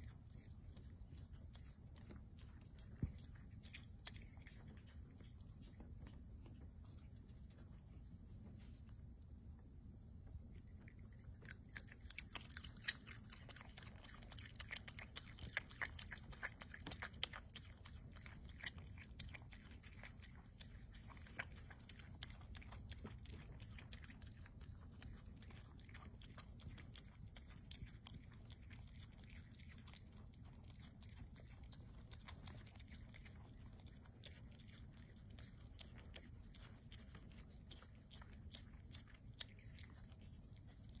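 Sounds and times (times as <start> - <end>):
opossum chewing: 0.0 - 41.0.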